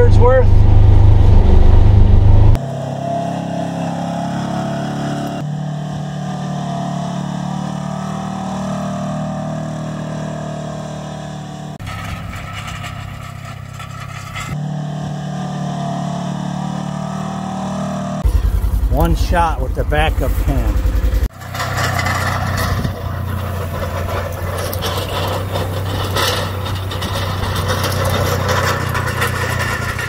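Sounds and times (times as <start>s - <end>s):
utility vehicle engine running: 0.0s - 2.8s, 4.0s - 30.0s.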